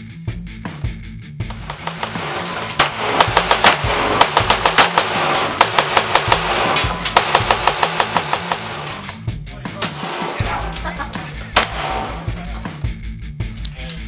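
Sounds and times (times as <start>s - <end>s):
heavy metal music: 0.0s - 14.0s
fast hard-hitting drums: 0.6s - 13.1s.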